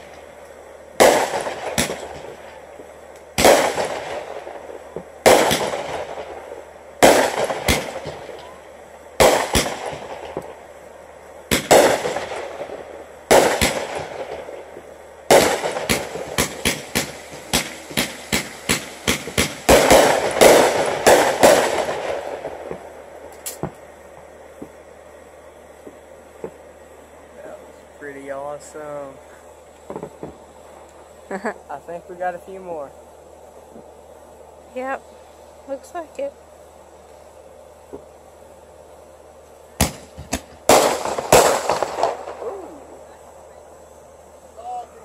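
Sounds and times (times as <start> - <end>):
fireworks bangs: 0.0 - 34.0, 37.1 - 38.7, 39.7 - 45.0.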